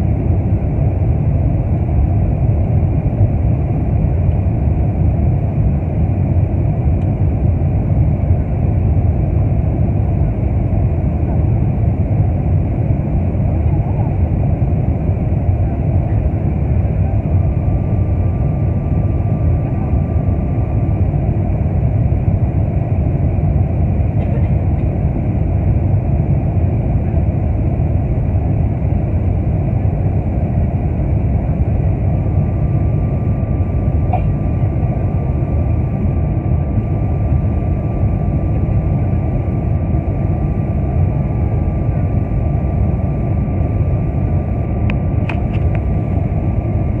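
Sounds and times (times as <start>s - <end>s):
faint high steady whine: 0.0s - 47.0s
jet engines roaring: 0.0s - 47.0s.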